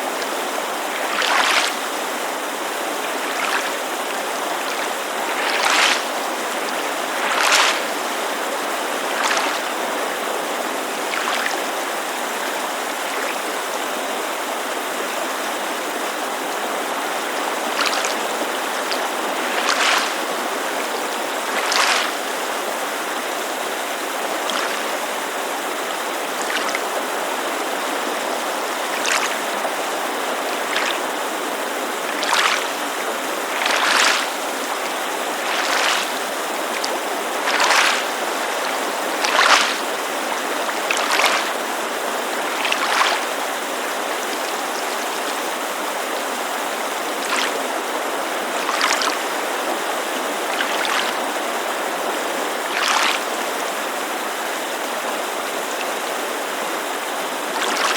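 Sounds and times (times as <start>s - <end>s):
creek rushing hiss: 0.0s - 57.9s
small waves lapping: 0.0s - 57.9s.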